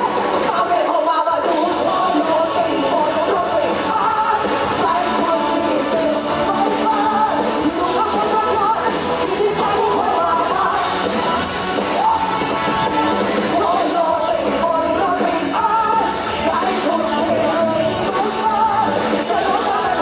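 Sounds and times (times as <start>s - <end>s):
woman singing into microphone: 0.0s - 11.1s, 11.9s - 20.0s
pop-rock band playing: 0.0s - 20.0s.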